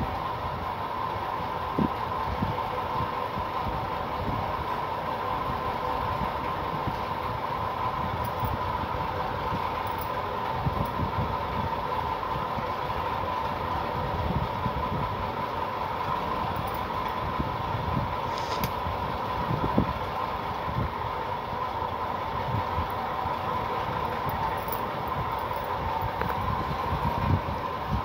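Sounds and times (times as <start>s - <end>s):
mechanical drone humming: 0.0s - 28.0s
low uneven rumble: 3.7s - 28.0s.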